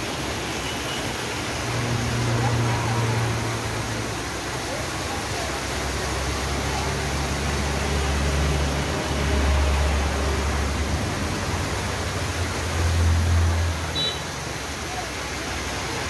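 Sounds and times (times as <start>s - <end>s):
waterfall rushing water: 0.0s - 16.0s.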